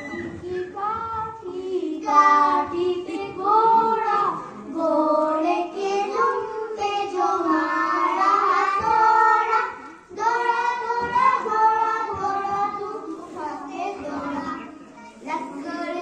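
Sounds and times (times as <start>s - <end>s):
child singing: 0.1s - 16.0s.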